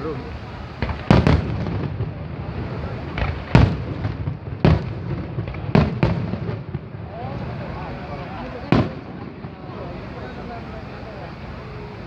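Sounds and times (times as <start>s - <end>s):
continuous din of fireworks display: 0.0s - 12.0s
fireworks exploding: 0.0s - 12.0s.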